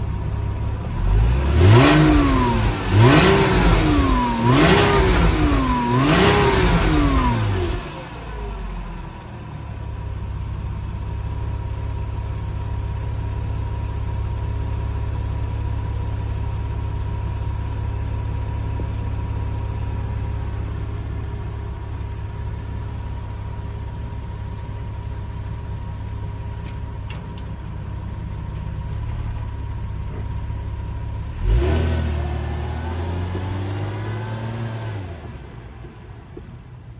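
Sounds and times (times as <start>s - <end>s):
car engine revving and idling: 0.0s - 36.7s.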